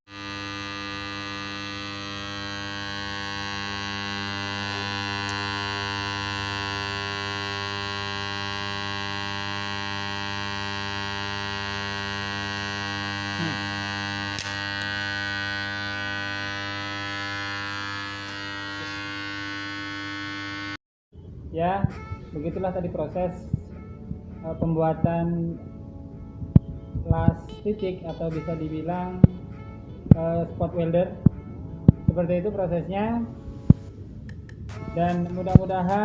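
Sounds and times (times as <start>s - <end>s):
transformer humming: 0.1s - 36.0s.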